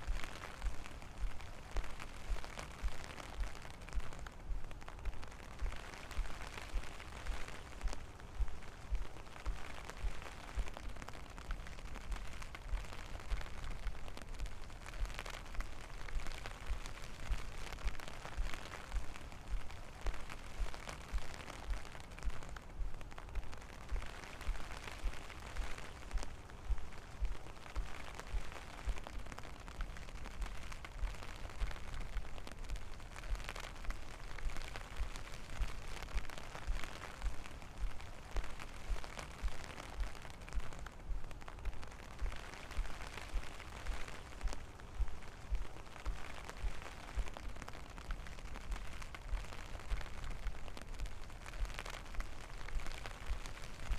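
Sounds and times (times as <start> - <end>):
rain falling: 0.0 - 53.9.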